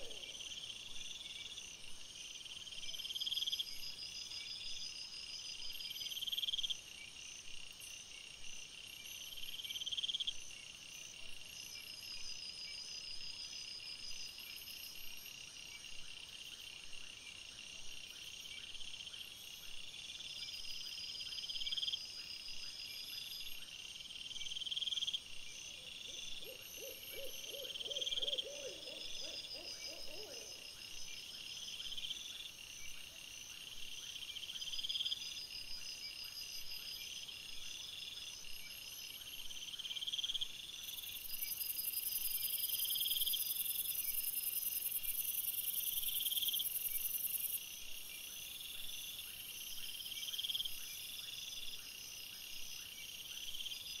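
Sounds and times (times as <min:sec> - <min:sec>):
crickets chirping: 0:00.0 - 0:54.0
low pulsed insect trill: 0:00.0 - 0:54.0.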